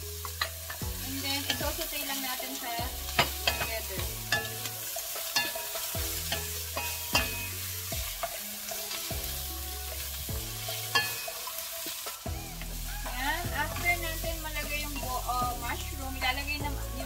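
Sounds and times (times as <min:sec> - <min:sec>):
spatula scraping wok: 0:00.0 - 0:17.0
vegetables sizzling in wok: 0:00.0 - 0:17.0.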